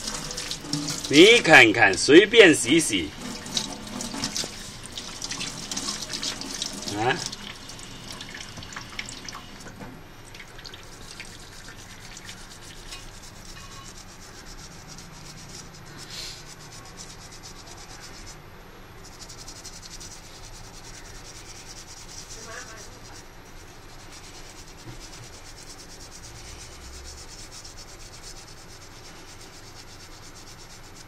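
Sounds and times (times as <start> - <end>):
toothbrush scrubbing fingertip: 0.0 - 9.6, 10.3 - 18.4, 19.0 - 31.0.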